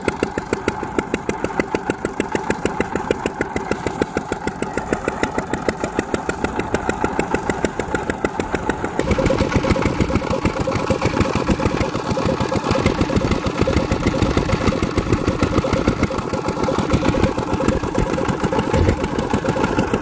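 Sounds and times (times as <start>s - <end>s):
small diesel engine chugging: 0.0s - 20.0s.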